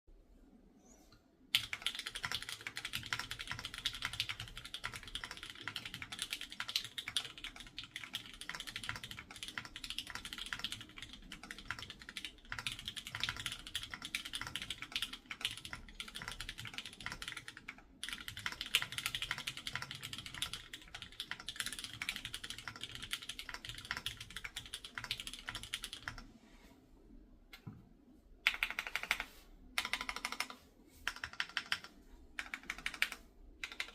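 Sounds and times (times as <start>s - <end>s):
fast mechanical keyboard typing: 1.5s - 26.2s, 28.4s - 33.9s.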